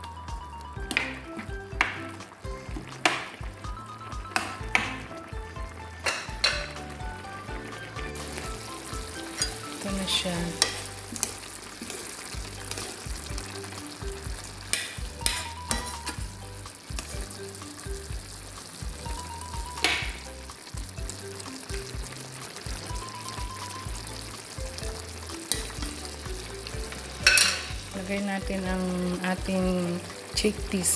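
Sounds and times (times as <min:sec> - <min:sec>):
stew bubbling in a pan: 0:00.0 - 0:30.9
spatula stirring: 0:00.9 - 0:19.2, 0:23.8 - 0:30.9.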